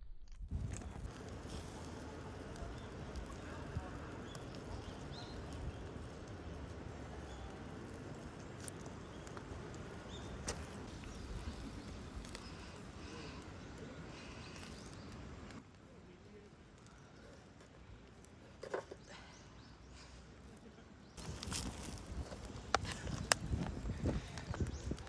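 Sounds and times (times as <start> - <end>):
outdoor background rush: 0.6 - 25.0.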